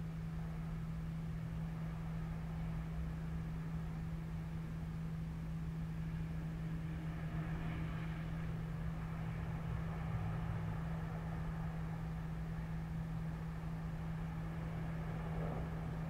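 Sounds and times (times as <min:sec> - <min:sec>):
distant street traffic hum: 0:00.0 - 0:16.0.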